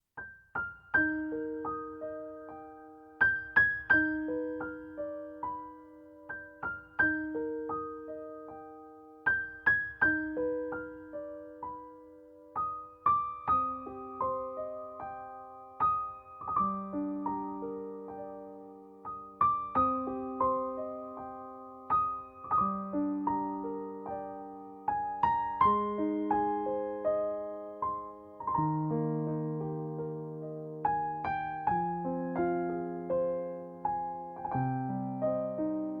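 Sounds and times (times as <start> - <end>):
slow gentle piano music: 0.0 - 36.0.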